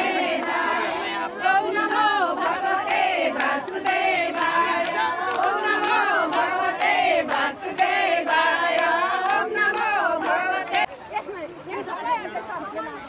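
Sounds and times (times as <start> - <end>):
hands clapping in rhythm: 0.0 - 10.9
women chanting together: 0.0 - 10.9.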